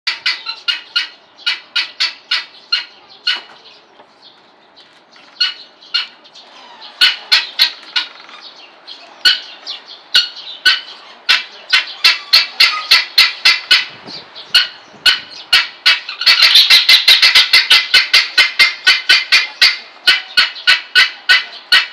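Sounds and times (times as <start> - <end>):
guineafowl squawking: 0.1 - 21.9.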